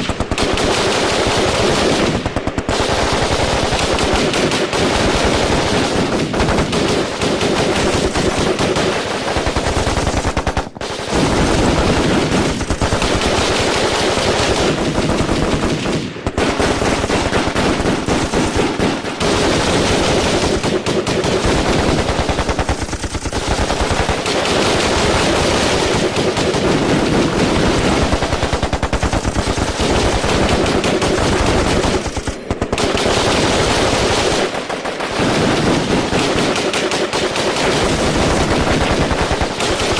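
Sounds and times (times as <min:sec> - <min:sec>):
automatic gunfire: 0:00.0 - 0:39.9.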